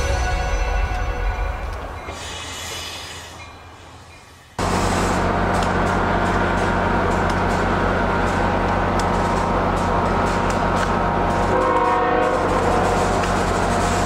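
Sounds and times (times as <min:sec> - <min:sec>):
diesel locomotive hum: 0:00.0 - 0:14.0.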